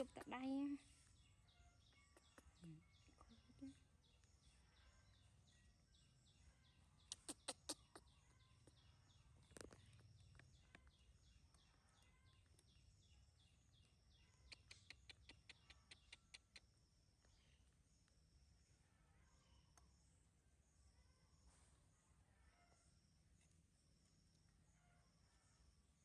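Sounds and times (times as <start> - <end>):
faint high chirps: 0.0 - 26.0.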